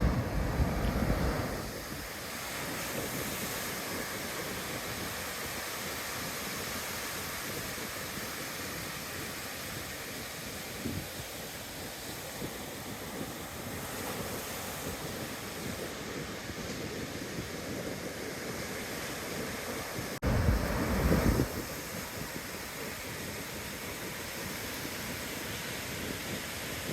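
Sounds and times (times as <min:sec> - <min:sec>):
waves breaking on beach: 0:00.0 - 0:26.9
wind buffeting microphone: 0:00.0 - 0:26.9.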